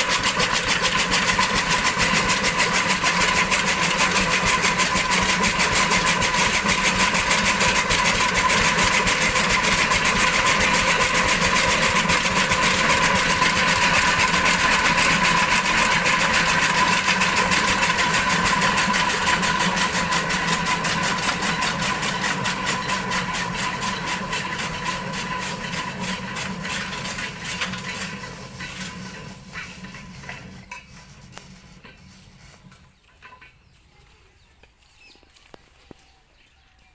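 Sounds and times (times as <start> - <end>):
diesel engine running: 0.0 - 33.4.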